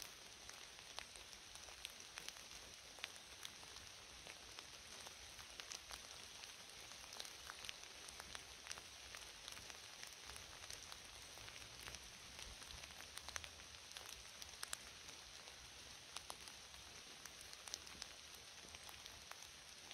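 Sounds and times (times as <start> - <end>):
light rain on foliage: 0.0 - 19.9
raindrops ticking: 0.0 - 19.9.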